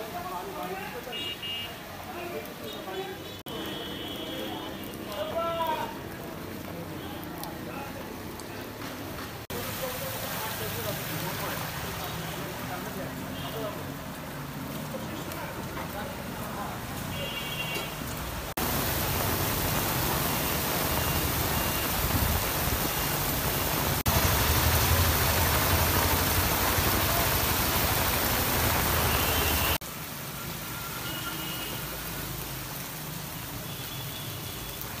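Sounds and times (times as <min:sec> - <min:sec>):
heavy rain downpour: 0:00.0 - 0:35.0
rain falling on floodwater: 0:00.0 - 0:35.0
water sheeting off a roof: 0:00.0 - 0:35.0.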